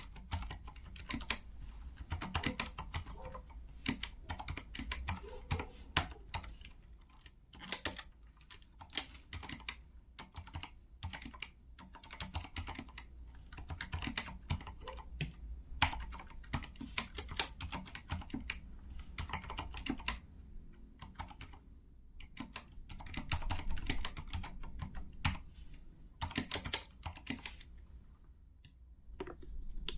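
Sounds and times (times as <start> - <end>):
soft keystrokes on mechanical keyboard: 0.0 - 21.6, 22.2 - 27.8.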